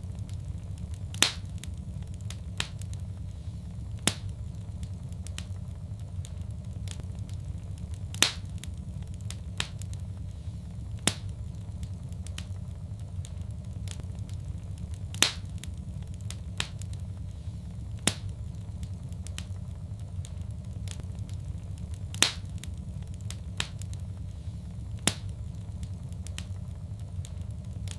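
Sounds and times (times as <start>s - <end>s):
sharp pops of fire: 0.0s - 27.9s
steady low rumble: 0.0s - 27.9s
wood fire crackling: 0.0s - 27.9s.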